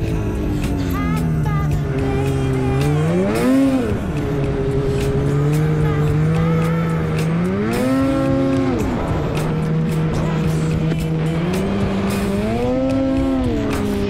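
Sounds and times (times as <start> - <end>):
snowmobile engine revving: 0.8 - 14.0.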